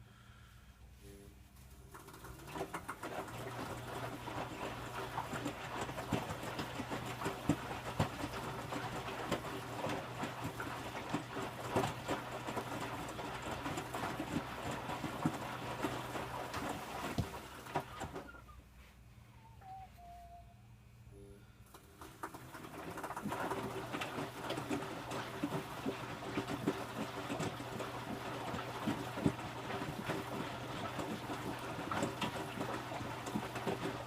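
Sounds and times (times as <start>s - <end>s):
washing machine motor hum: 1.5s - 18.8s, 19.5s - 34.0s
wet laundry tumbling and splashing: 1.9s - 18.3s, 22.0s - 34.0s.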